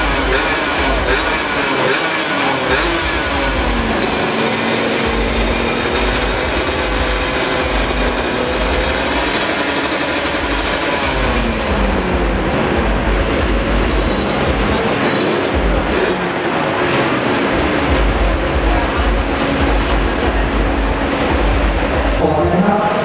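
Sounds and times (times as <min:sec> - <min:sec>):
small motorcycle engine running: 0:00.0 - 0:22.2.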